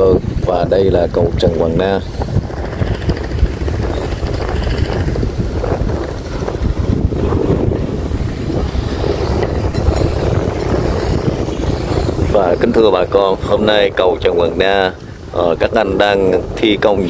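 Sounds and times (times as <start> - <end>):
wind buffeting microphone: 0.0 - 17.0
engine noise: 1.2 - 16.8.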